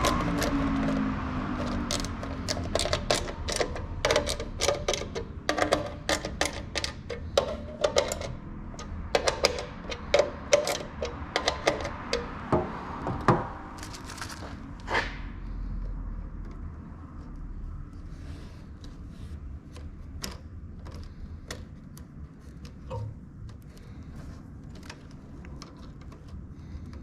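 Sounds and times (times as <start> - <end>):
hard objects clicking and knocking: 0.0 - 17.5, 19.7 - 27.0.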